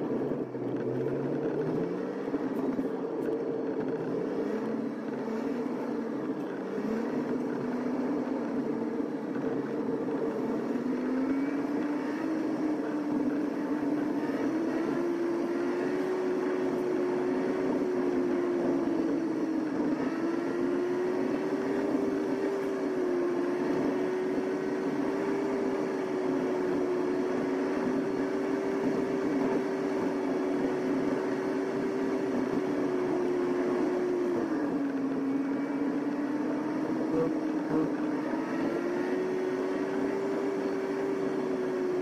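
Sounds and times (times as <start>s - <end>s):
vehicle motor hum and whine: 0.0s - 42.0s.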